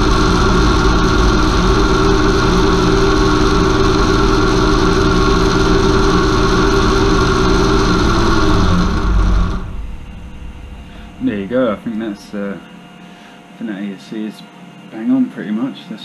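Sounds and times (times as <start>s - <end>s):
electric motor whine: 0.0s - 12.9s
low mechanical drone: 0.0s - 13.7s.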